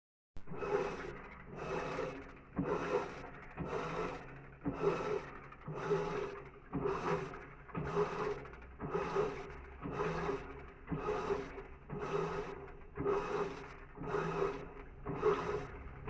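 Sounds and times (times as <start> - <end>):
washing machine agitating: 0.4 - 16.0.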